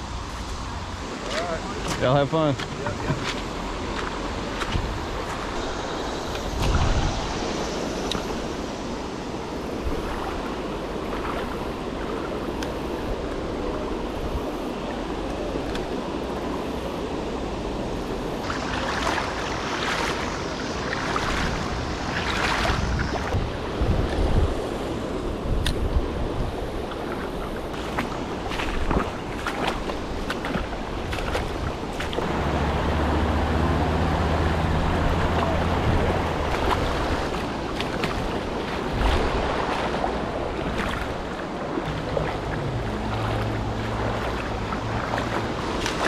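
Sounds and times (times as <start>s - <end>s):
river rushing over rocks: 0.0s - 46.0s
wading splashes: 0.0s - 46.0s.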